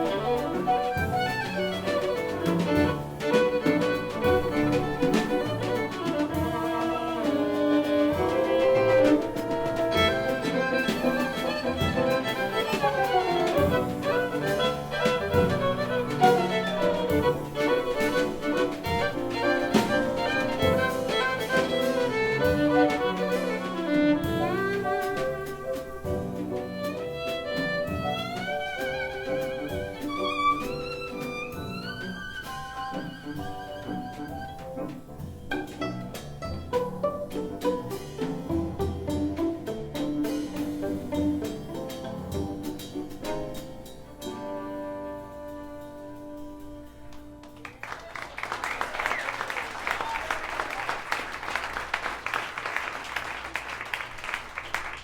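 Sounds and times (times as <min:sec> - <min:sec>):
jazz violin melody: 0:00.0 - 0:47.9
drums: 0:00.0 - 0:55.0
piano: 0:00.0 - 0:55.0.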